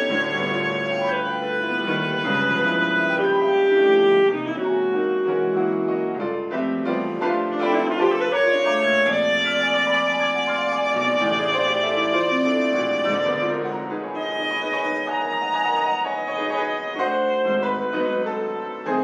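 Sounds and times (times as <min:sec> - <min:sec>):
alto saxophone melody: 0:00.0 - 0:19.0
piano accompaniment: 0:00.0 - 0:19.0.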